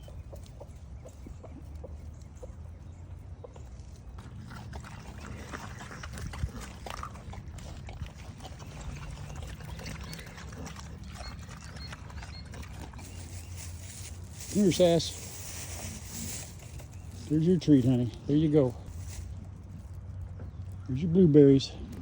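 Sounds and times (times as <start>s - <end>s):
animals crunching food: 0.0s - 22.0s.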